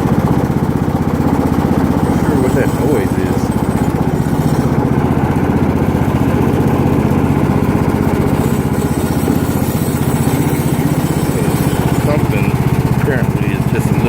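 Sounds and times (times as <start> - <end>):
lawn tractor engine idling: 0.0 - 14.0
small metallic pinging: 0.5 - 14.0.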